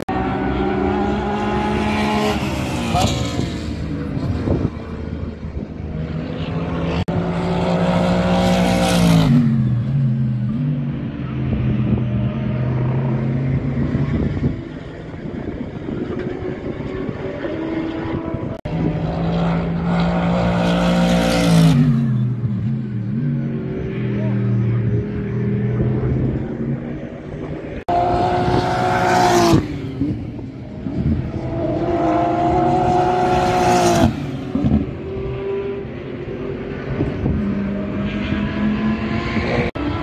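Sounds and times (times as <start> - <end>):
distant race car engines: 0.0 - 40.0
race cars passing: 0.0 - 40.0.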